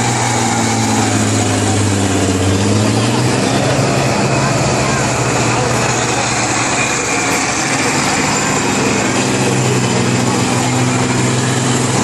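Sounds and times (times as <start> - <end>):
combine harvester engines running: 0.0 - 12.0.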